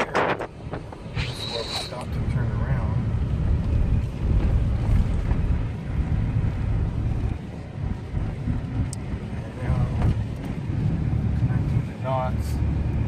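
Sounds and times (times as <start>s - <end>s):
wind buffeting microphone: 0.0s - 11.8s
engine and road rumble: 0.0s - 13.0s.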